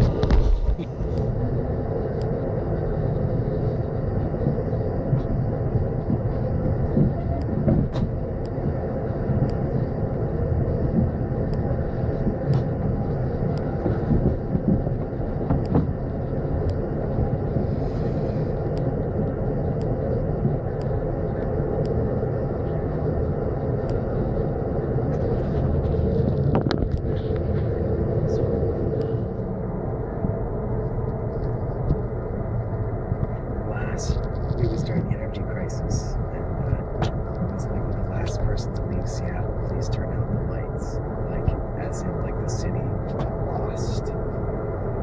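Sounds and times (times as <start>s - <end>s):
vehicle rumble from inside: 0.0s - 45.0s.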